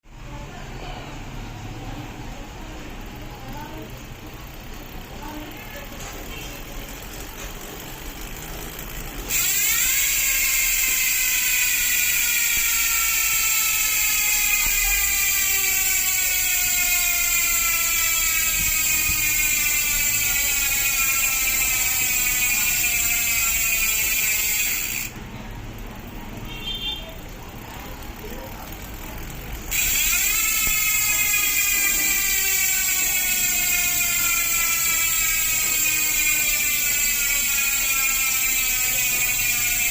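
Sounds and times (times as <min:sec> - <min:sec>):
bicycle hub freewheel buzz: 0:00.1 - 0:39.9.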